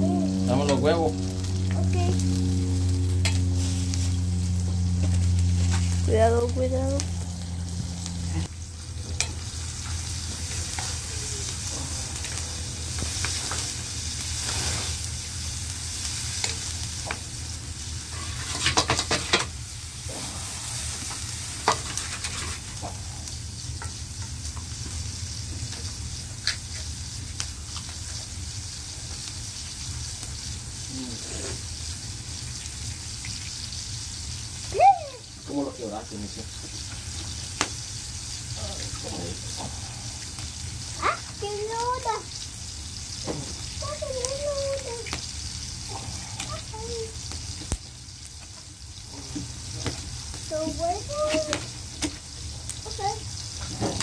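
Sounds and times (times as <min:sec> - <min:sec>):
eggs sizzling in a pan: 0:00.0 - 0:54.0.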